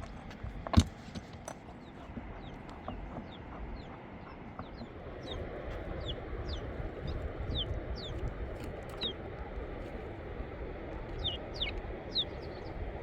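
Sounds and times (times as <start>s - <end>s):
steady low rumble: 1.8s - 13.0s.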